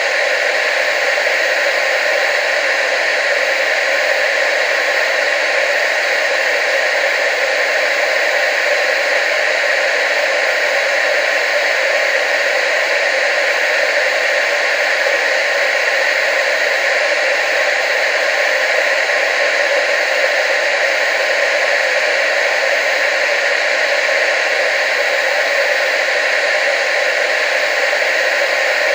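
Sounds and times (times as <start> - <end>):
tv static hiss: 0.0 - 28.9.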